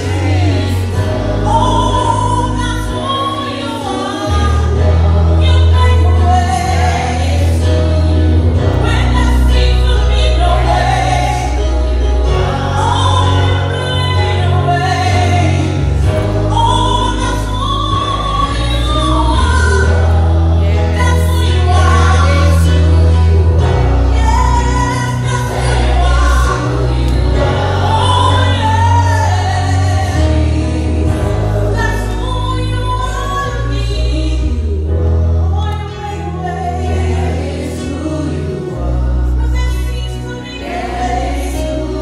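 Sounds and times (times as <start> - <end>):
backing singers: 0.0 - 35.4, 36.2 - 42.0
long held bass notes: 0.0 - 42.0
woman singing into microphone: 0.0 - 42.0.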